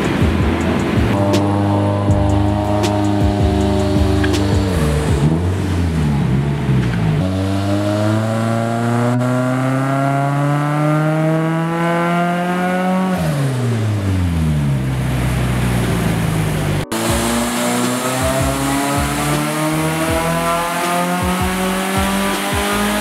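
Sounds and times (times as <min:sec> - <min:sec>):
turbocharged car engine revving: 0:00.0 - 0:23.0.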